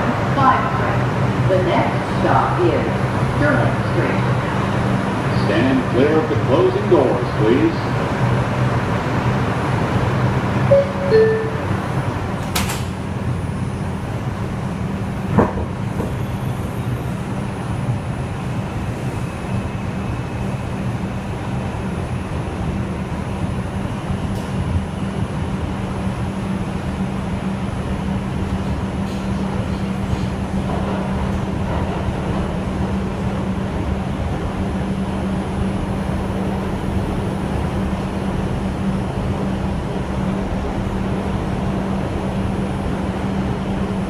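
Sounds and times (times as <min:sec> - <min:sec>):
subway wheels rumbling on rails: 0:00.0 - 0:44.0.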